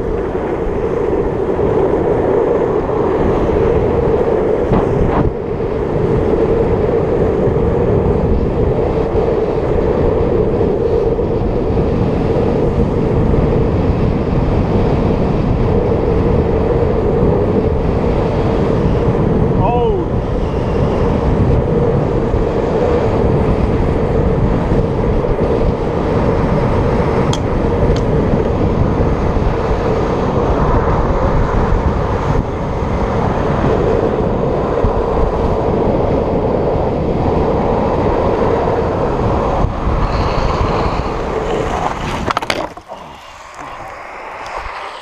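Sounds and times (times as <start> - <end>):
skateboard wheels rolling on asphalt: 0.0 - 45.0
wind on microphone: 0.0 - 45.0.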